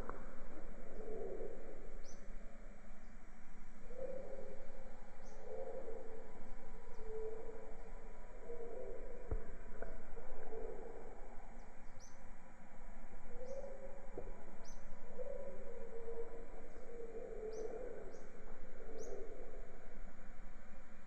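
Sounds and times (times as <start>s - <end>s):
low drawn-out bird calls: 0.0s - 21.0s
steady background hiss: 0.0s - 21.0s.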